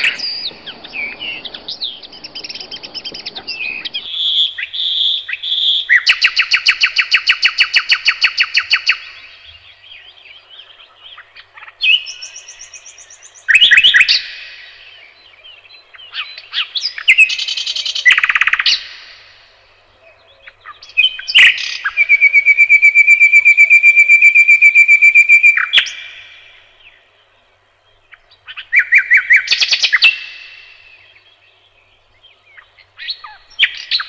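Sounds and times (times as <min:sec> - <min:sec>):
nightingale singing: 0:00.0 - 0:34.0.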